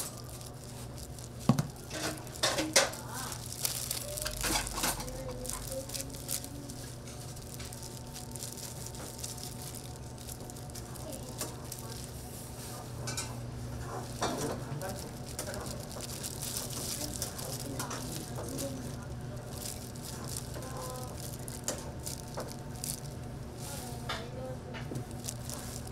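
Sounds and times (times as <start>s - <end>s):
utensils clicking and scraping: 0.0s - 12.2s, 13.0s - 24.2s
kitchen equipment humming: 0.0s - 25.9s.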